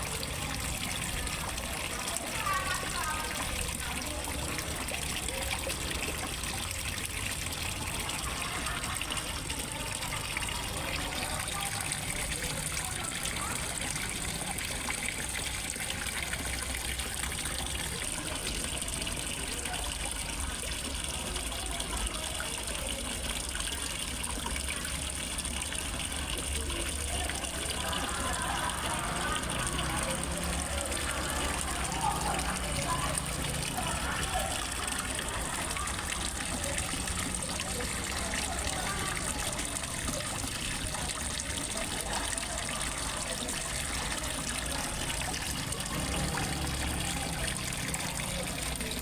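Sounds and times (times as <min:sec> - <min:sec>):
water splashing into pond: 0:00.0 - 0:49.0.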